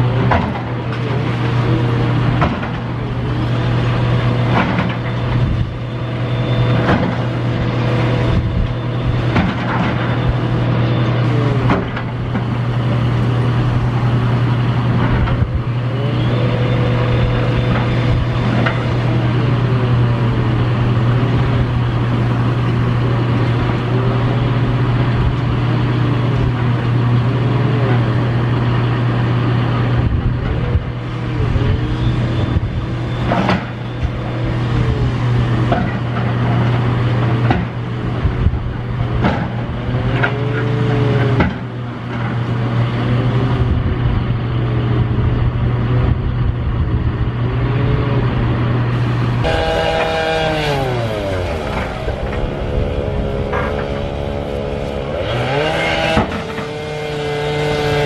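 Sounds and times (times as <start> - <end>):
heavy machinery engine running: 0.0 - 58.0
wavering machine whine: 0.0 - 58.0.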